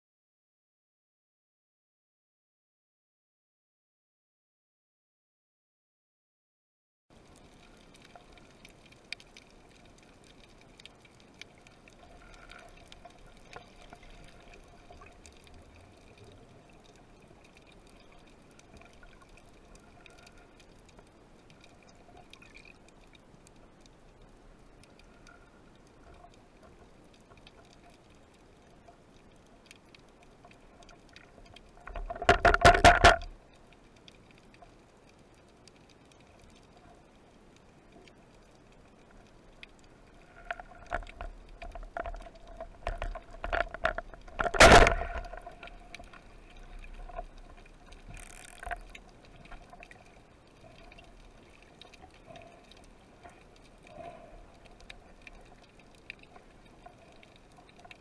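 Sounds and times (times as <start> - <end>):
underwater clicks and crackles: 7.1 - 58.0.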